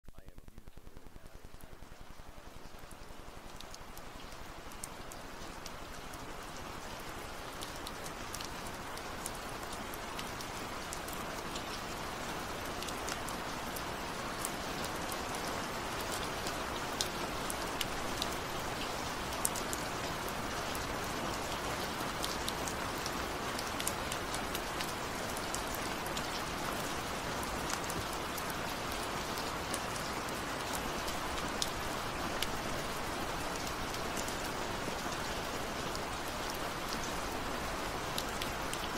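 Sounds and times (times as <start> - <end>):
steady rain: 0.1 - 38.9.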